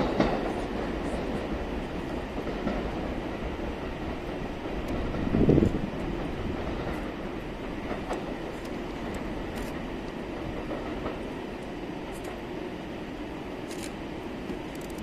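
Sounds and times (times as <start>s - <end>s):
train wheels clacking over rail joints: 0.0s - 12.4s
train rumble: 0.0s - 15.0s.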